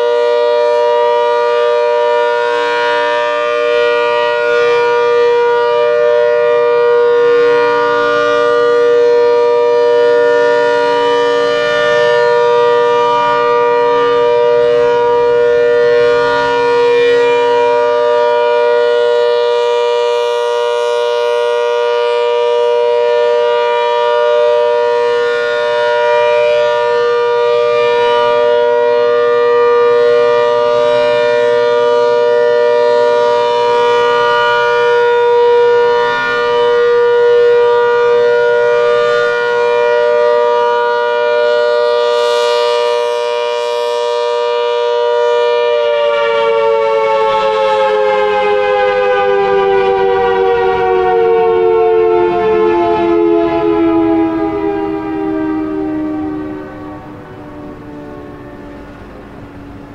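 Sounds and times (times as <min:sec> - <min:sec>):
rotating warning siren: 0:00.0 - 0:59.9.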